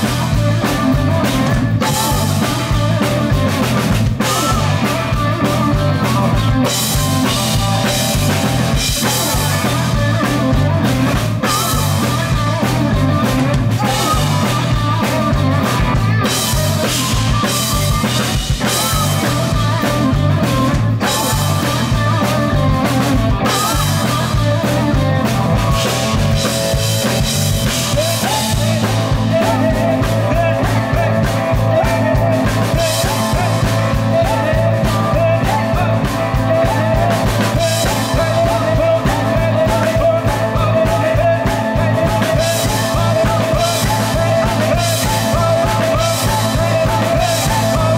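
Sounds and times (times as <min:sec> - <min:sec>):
drum kit: 0:00.0 - 0:47.9
electric bass: 0:00.0 - 0:47.9
electric guitar: 0:00.0 - 0:47.9.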